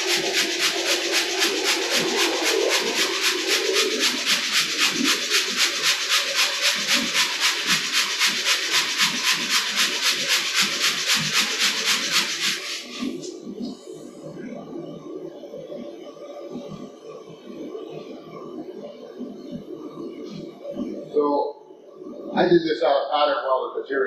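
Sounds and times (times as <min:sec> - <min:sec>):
machine pulsing hiss: 0:00.0 - 0:21.3.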